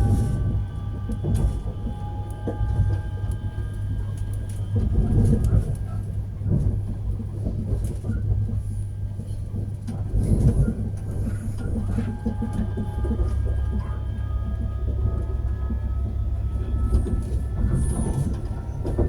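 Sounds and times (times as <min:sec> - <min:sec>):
train interior rumbling hum: 0:00.0 - 0:19.0.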